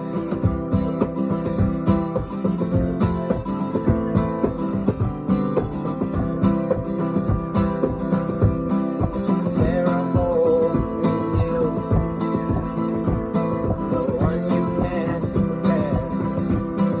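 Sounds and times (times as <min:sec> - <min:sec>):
acoustic guitar playing: 0:00.0 - 0:17.0
cajon beat: 0:00.0 - 0:17.0.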